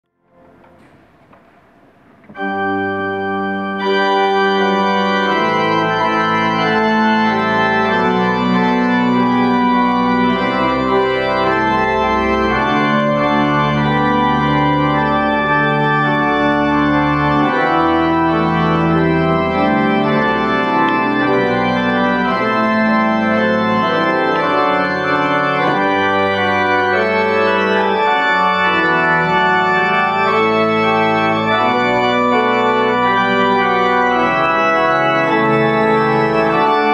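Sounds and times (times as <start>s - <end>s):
pipe organ playing chords: 0.2s - 36.9s.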